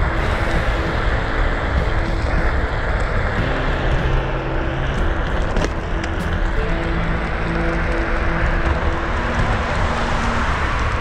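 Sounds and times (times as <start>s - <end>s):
wheel rumbling on asphalt: 0.0s - 11.0s
wind noise on microphone: 0.0s - 11.0s.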